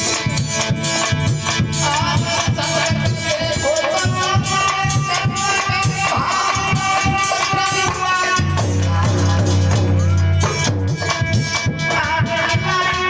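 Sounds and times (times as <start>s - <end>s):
dholak drumming: 0.0s - 13.0s
harmonium playing: 0.0s - 13.0s.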